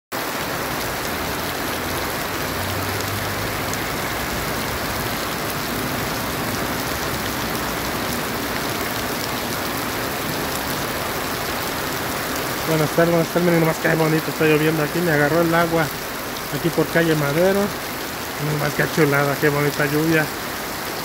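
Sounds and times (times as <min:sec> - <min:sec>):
heavy rain on pavement: 0:00.1 - 0:21.0
raindrops ticking: 0:00.3 - 0:21.0.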